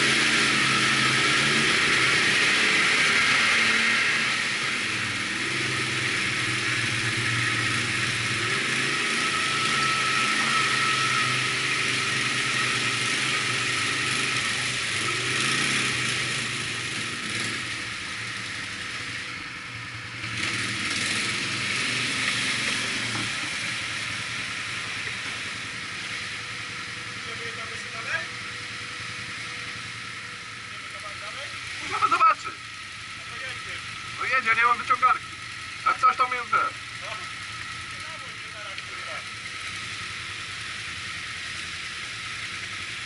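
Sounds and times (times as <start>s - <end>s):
atv engines running: 0.0s - 43.0s.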